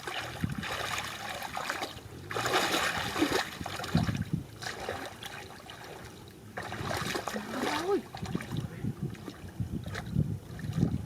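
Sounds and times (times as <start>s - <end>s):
muddy water splashing: 0.0s - 11.0s.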